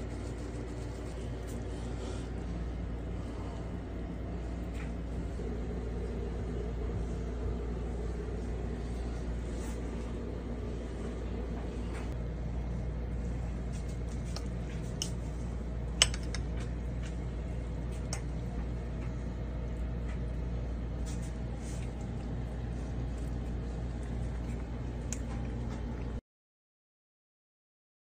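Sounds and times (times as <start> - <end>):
steady low hum: 0.0 - 26.2.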